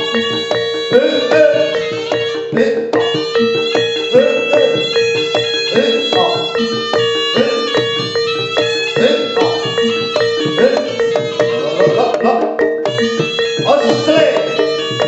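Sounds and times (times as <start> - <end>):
drum strokes: 0.0 - 15.0
reedy wind instrument note: 0.0 - 15.0
ringing metal gongs: 0.0 - 15.0.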